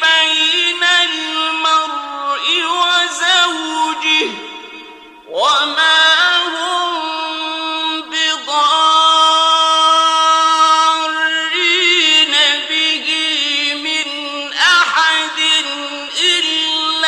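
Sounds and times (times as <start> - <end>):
man chanting: 0.0 - 17.0.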